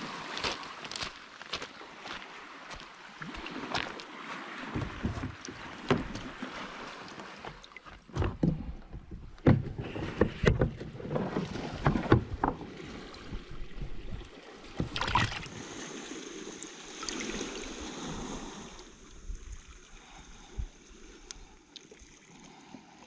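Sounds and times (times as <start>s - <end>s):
water splashing: 0.0s - 8.9s, 11.2s - 22.6s.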